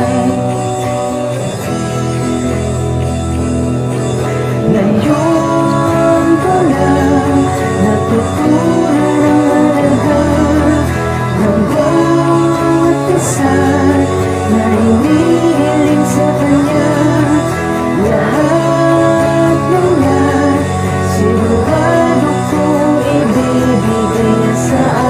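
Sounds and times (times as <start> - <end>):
person singing: 0.0 - 2.2, 4.0 - 25.0
guitar-led band playing: 0.0 - 25.0.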